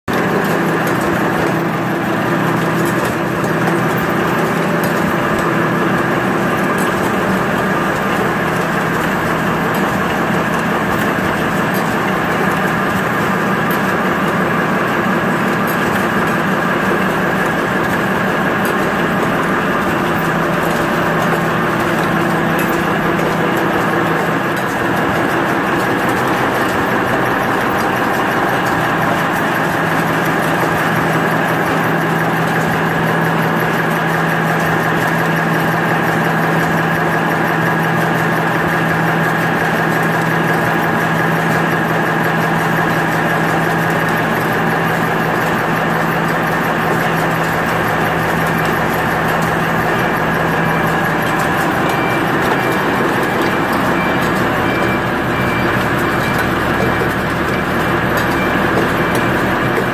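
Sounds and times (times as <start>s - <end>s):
machine whine: 0.1s - 59.9s
machinery clatter: 0.1s - 59.9s.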